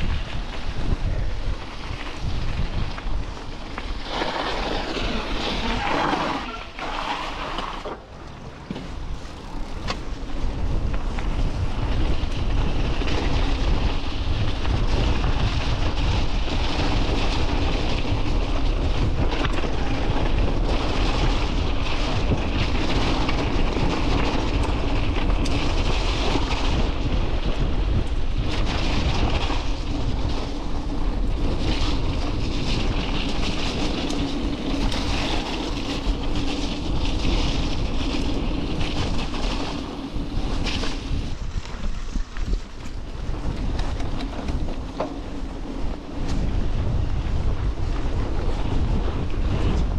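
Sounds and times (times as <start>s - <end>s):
bike rattling over rough ground: 0.0s - 49.9s
bike tyre rumble: 0.0s - 49.9s
wind buffeting microphone: 0.0s - 49.9s.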